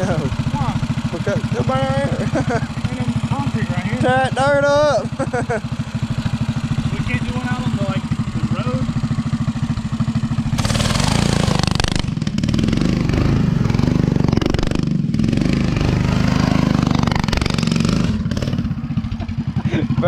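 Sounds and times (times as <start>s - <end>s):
mini bike engine revving: 0.0s - 20.0s.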